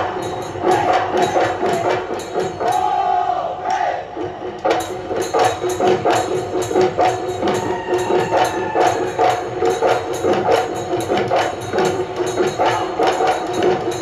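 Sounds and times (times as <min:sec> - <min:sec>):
cymbals beating: 0:00.0 - 0:03.3, 0:04.1 - 0:14.0
drums beating quick rhythm: 0:00.0 - 0:14.0.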